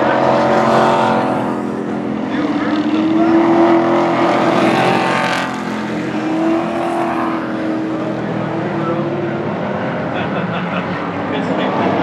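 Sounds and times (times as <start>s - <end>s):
race truck engines roaring past: 0.0s - 12.0s.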